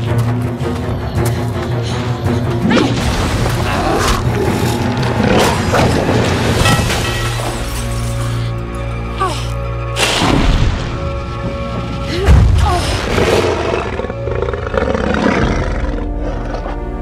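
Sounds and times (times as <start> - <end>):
dramatic film score: 0.0 - 17.0.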